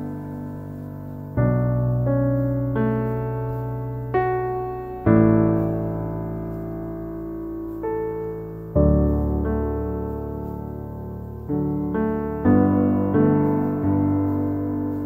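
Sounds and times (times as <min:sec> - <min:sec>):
slow solo piano music: 0:00.0 - 0:15.0.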